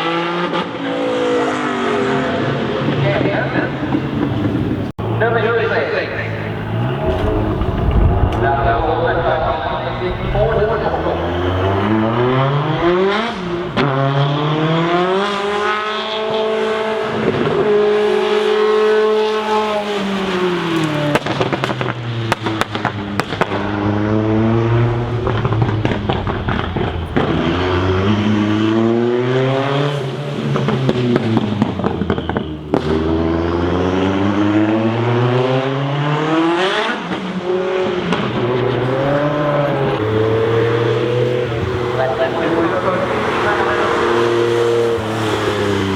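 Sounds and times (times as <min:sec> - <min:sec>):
sports car engine revving: 0:00.0 - 0:45.9
exhaust crackles: 0:02.8 - 0:34.4, 0:37.2 - 0:45.9.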